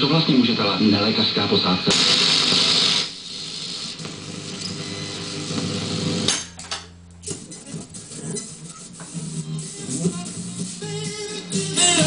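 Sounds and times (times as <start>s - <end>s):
radio static hiss: 0.0s - 6.4s, 7.2s - 12.0s.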